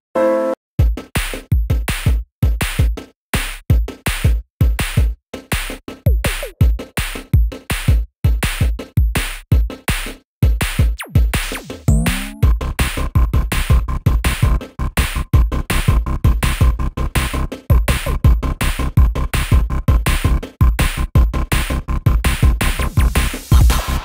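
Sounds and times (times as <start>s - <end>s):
electronic music with drum-machine beat: 0.8s - 24.0s.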